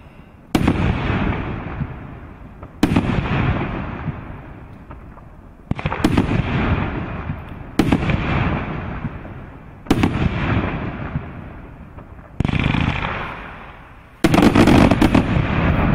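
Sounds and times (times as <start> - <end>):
fireworks bangs: 0.0 - 15.9
dense run of firework cracks: 0.5 - 15.9.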